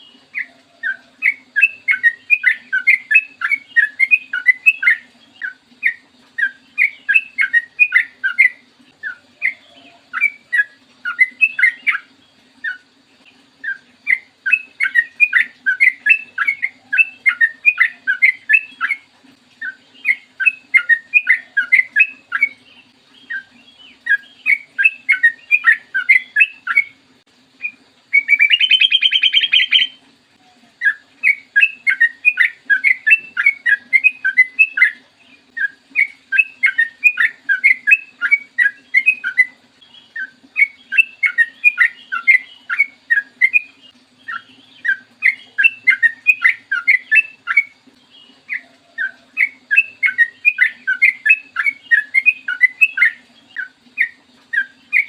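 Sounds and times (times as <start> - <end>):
bird chirping bubbly notes: 0.0 - 55.0
harsh buzzy bird chatter: 0.0 - 55.0.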